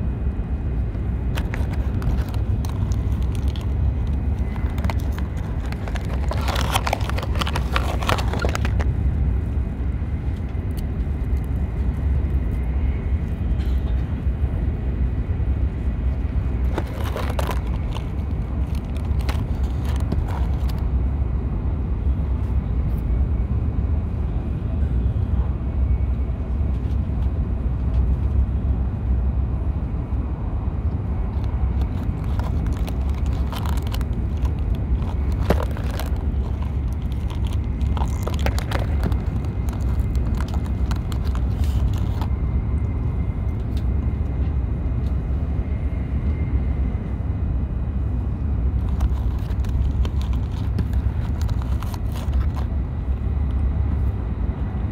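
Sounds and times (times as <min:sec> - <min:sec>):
train cabin rumble: 0:00.0 - 0:54.9.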